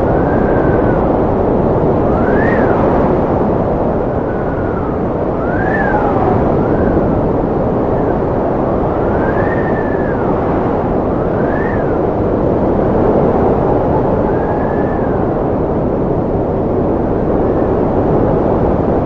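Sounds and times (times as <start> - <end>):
strong wind whistling: 0.0 - 19.0.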